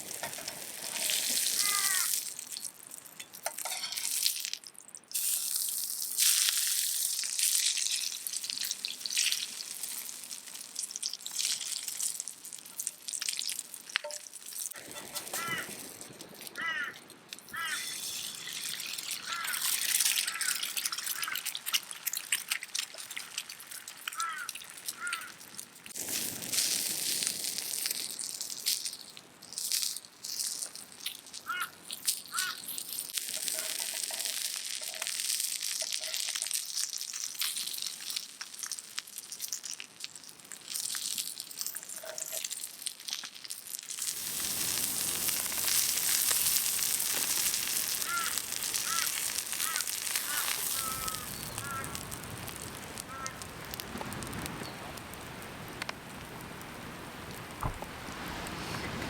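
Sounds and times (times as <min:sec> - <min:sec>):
food sizzling over coals: 0:00.0 - 0:59.0.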